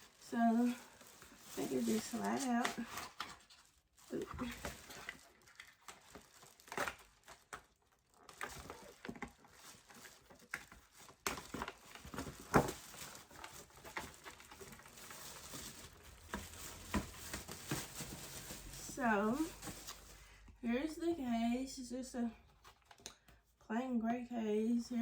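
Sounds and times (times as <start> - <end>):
soft rustling of packaging: 0.0 - 23.7.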